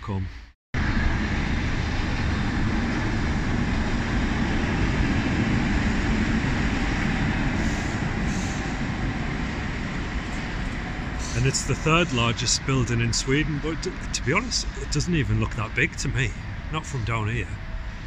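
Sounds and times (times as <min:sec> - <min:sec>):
urban traffic rumble: 0:00.8 - 0:18.0.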